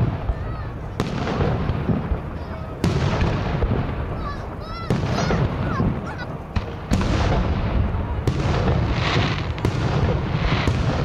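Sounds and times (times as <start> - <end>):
crackling hiss of fireworks: 0.0 - 11.0
firework bangs: 0.0 - 11.0
low rumble of booms: 0.0 - 11.0.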